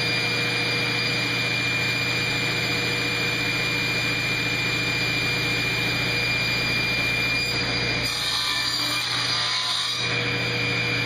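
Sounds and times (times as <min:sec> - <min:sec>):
dust collector running: 0:00.0 - 0:11.0
table saw blade spinning: 0:00.0 - 0:11.0.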